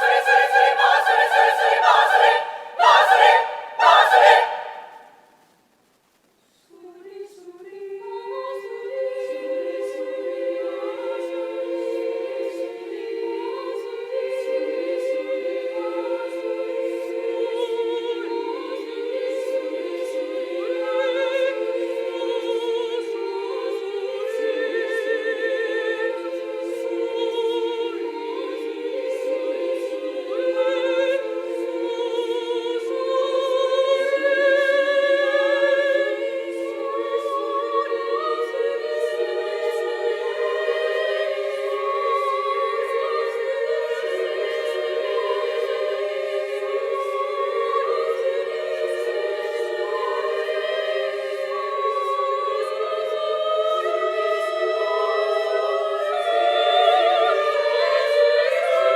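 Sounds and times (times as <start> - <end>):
women's choir singing: 0.0 - 5.2, 6.8 - 58.9.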